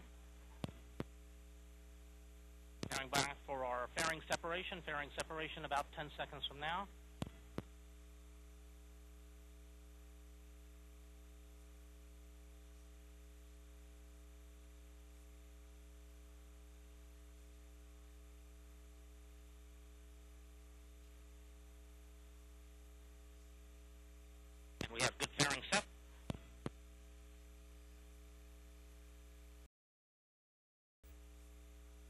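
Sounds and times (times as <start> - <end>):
low electrical hum with hiss: 0.0 - 29.7, 31.1 - 32.0.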